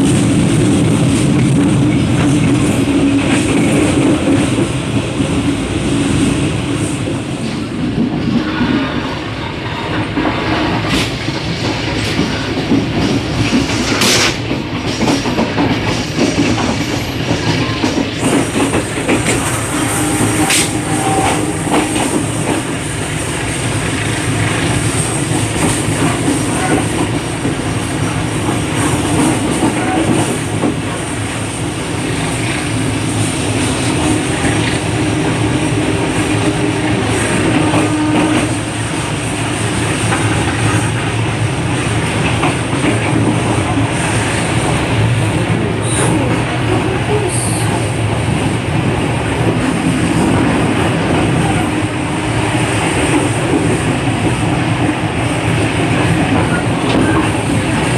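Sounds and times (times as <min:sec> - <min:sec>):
train rumbling: 0:00.0 - 0:57.9.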